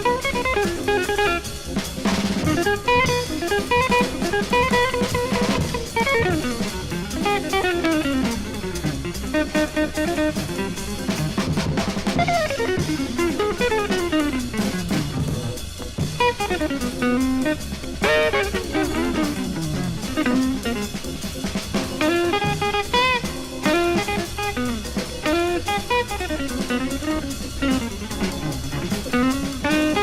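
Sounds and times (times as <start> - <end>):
drum kit: 0.0 - 30.0
electric jazz guitar runs: 0.0 - 30.0.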